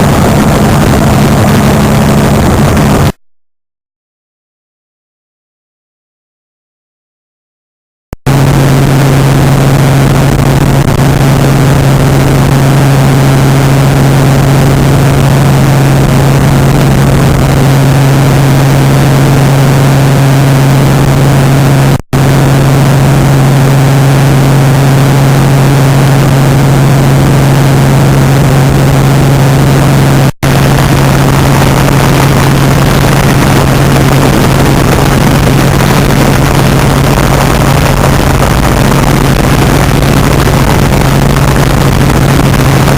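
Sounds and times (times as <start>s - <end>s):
helicopter engine and rotor drone: 0.0s - 3.1s, 8.3s - 42.9s.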